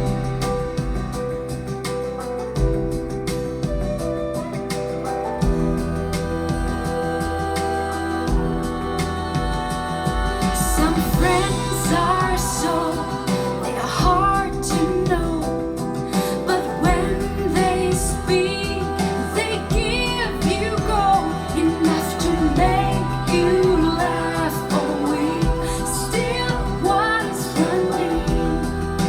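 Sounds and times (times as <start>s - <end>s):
woman singing pop song: 0.0s - 2.0s, 2.6s - 29.0s
sustained chords and bass line: 0.0s - 29.0s.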